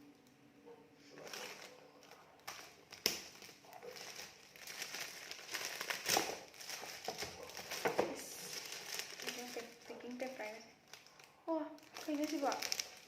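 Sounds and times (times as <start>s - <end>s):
wrapping paper rustling and snapping: 1.0s - 13.0s.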